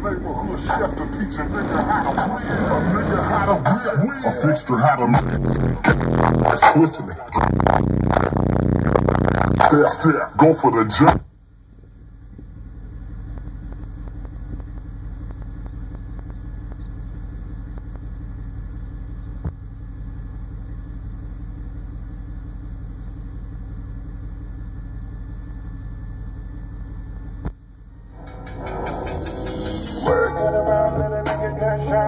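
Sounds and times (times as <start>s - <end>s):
engine idling rumble: 0.0s - 32.0s.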